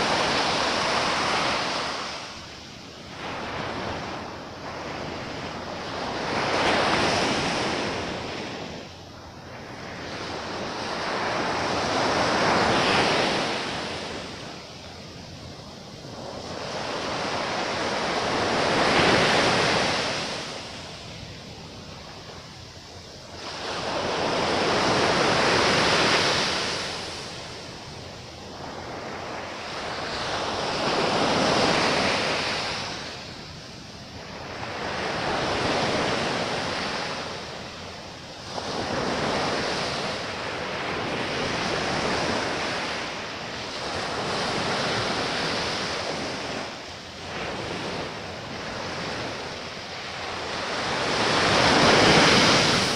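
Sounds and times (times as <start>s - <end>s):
sea waves breaking on shore: 0.0s - 52.9s.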